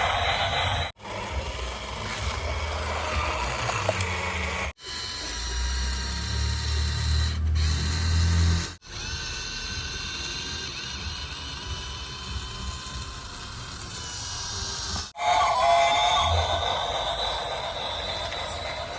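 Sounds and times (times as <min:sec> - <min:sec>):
toy electric motor whining: 0:00.0 - 0:18.9.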